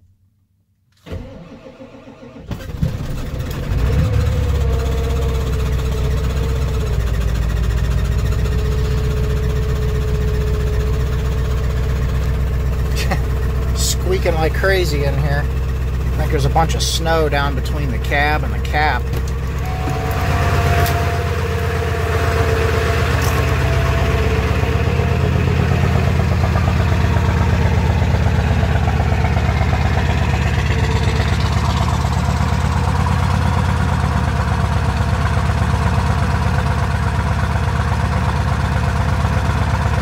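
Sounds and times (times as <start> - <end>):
diesel engine idling: 2.6 - 40.0.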